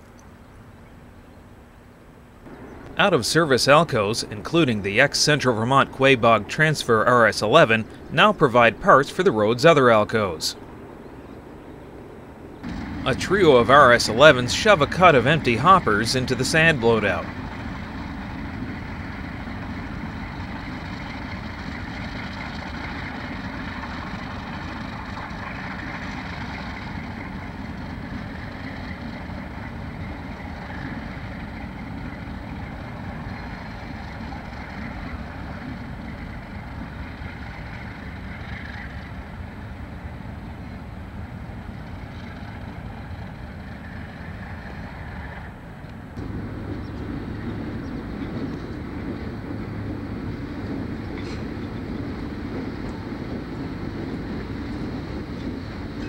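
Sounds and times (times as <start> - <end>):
diesel locomotive engines running: 0.0 - 56.0.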